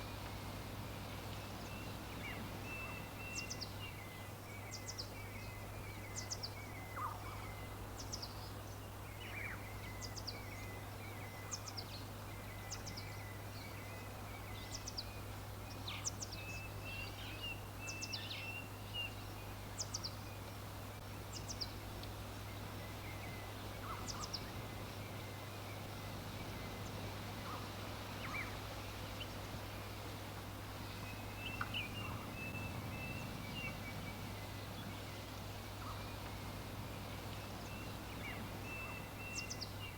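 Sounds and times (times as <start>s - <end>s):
birds chirping and twittering: 0.0s - 39.9s
steady background hiss: 0.0s - 39.9s.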